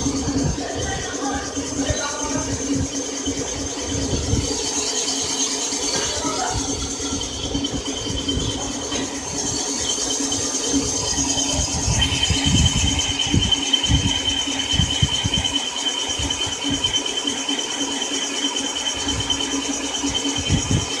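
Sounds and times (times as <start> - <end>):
high steady squeal: 0.0 - 21.0
machine hum: 0.0 - 21.0.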